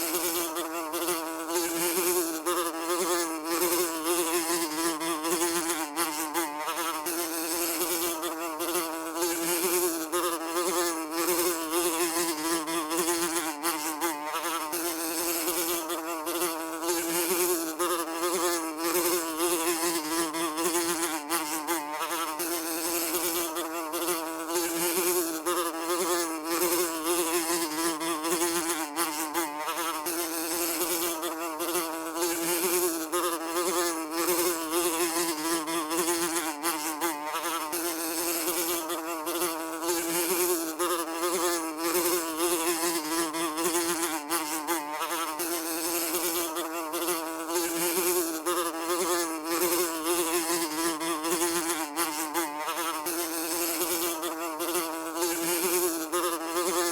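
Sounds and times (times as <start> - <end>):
fly buzzing: 0.0 - 56.9.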